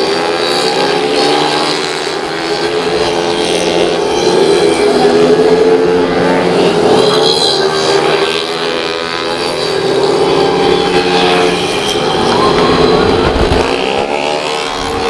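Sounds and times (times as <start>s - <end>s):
scooter engines revving high: 0.0s - 15.0s.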